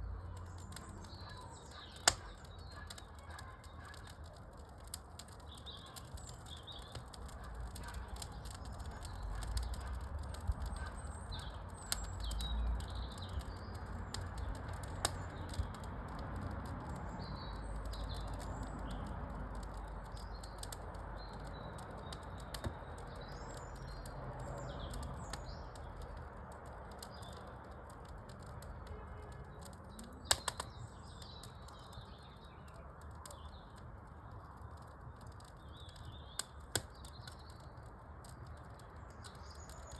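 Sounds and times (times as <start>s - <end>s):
low rumble of fire: 0.0s - 39.9s
small birds chirping: 0.0s - 39.9s
wood fire crackling: 0.0s - 39.9s.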